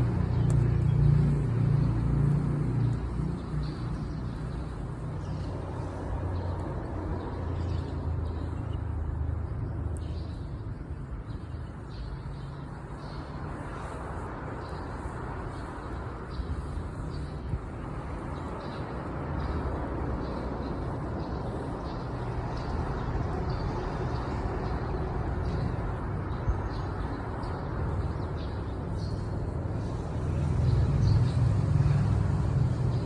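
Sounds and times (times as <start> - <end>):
campfire low rumble: 0.0 - 33.0.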